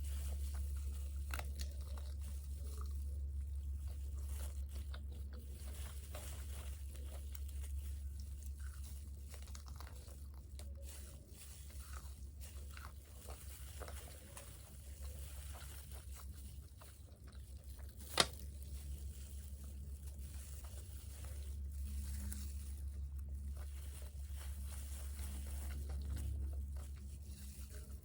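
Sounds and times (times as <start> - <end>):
crunchy chewing: 0.0 - 28.0.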